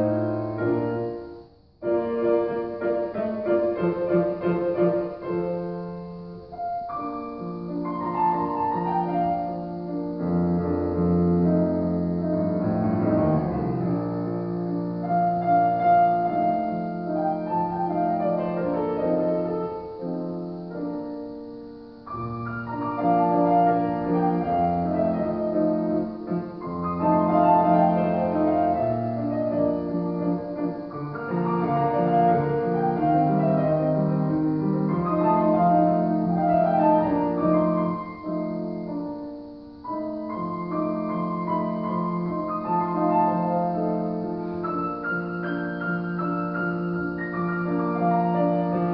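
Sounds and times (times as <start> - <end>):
solo grand piano piece: 0.0 - 48.9.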